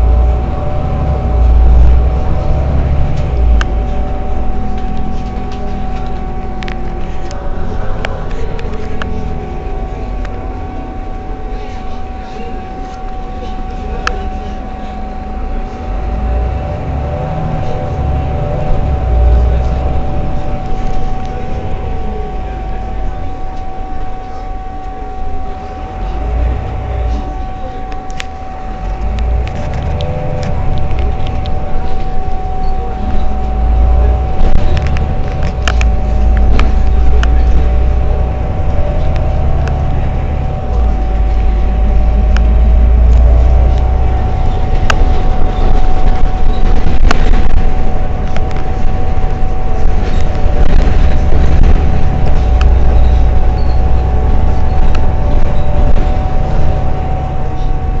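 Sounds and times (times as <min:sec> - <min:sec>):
bus engine idling: 0:00.0 - 0:58.0
high whine: 0:00.0 - 0:58.0.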